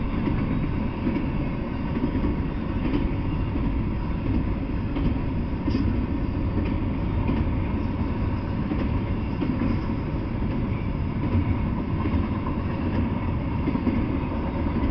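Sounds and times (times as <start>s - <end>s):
freight train rumbling on rails: 0.0s - 14.9s.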